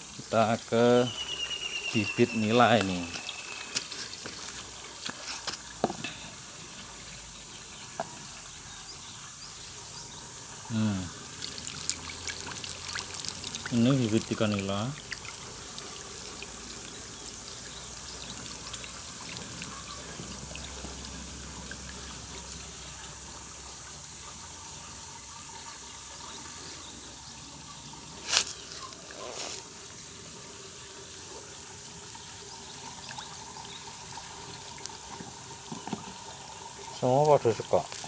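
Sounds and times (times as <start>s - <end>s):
water trickling: 0.0s - 38.0s.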